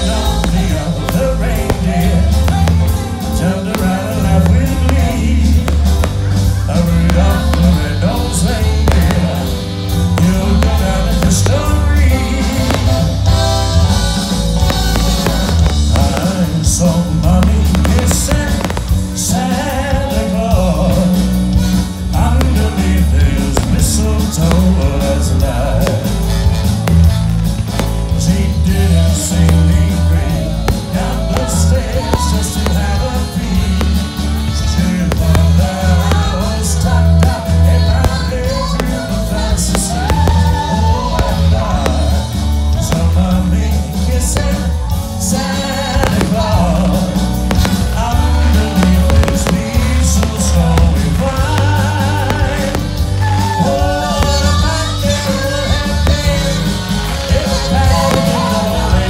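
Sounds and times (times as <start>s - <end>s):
person singing: 0.0s - 27.1s, 27.7s - 59.0s
bass: 0.0s - 59.0s
drum beat: 0.0s - 59.0s.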